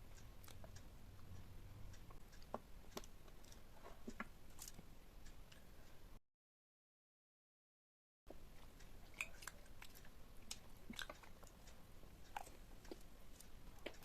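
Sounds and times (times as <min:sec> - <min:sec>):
close-miked chewing: 0:00.0 - 0:05.7, 0:08.3 - 0:14.0
soft clicks and crackles: 0:00.1 - 0:06.0, 0:08.3 - 0:14.0.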